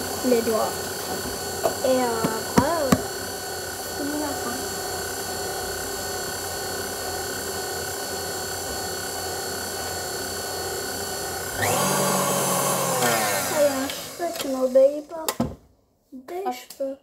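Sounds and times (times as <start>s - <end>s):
electric hand mixer whine: 0.0s - 15.3s.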